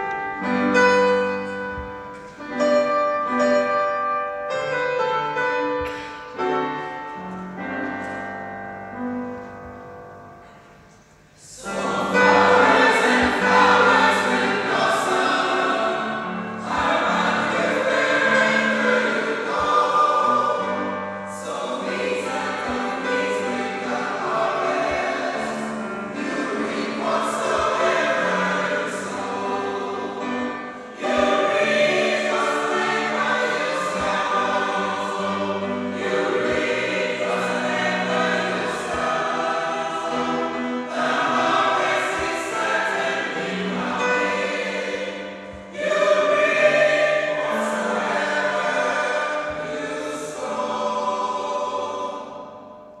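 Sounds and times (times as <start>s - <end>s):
church choir singing: 0.0s - 53.0s.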